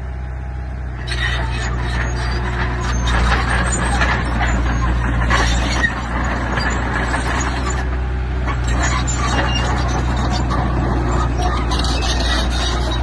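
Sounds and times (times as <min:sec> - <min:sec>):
heavy machinery diesel engine: 0:00.0 - 0:13.0
clatter and scraping: 0:01.0 - 0:13.0.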